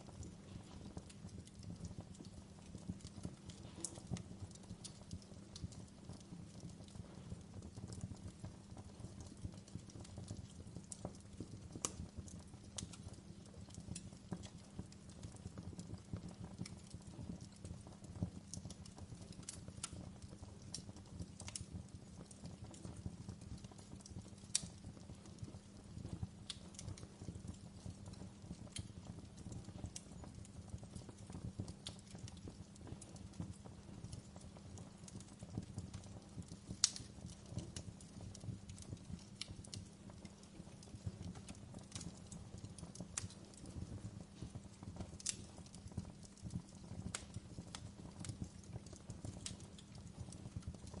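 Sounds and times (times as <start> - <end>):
fire crackling and popping: 0.0 - 51.0
wood fire rumbling: 0.0 - 51.0.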